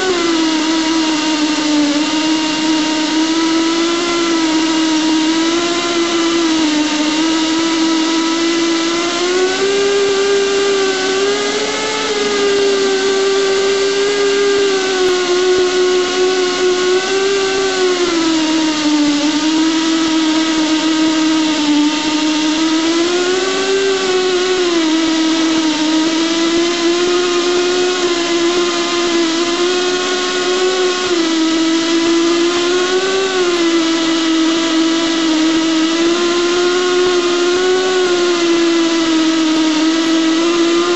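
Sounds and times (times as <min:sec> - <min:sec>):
pipe cutting machine motor whine: 0:00.0 - 0:40.9.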